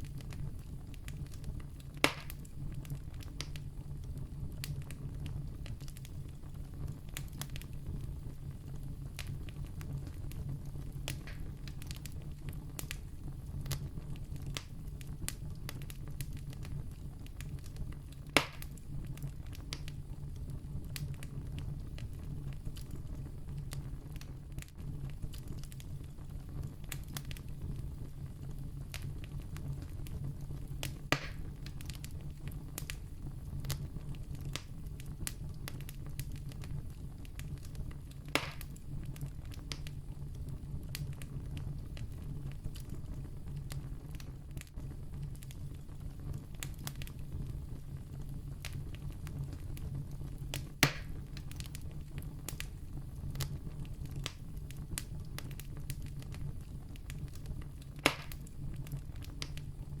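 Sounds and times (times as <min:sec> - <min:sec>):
campfire crackling: 0:00.0 - 1:00.0.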